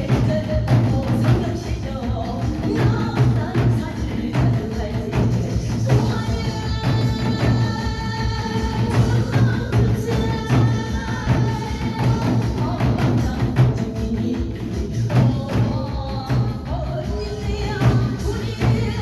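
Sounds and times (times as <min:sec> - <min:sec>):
drums struck rapidly: 0:00.0 - 0:19.0.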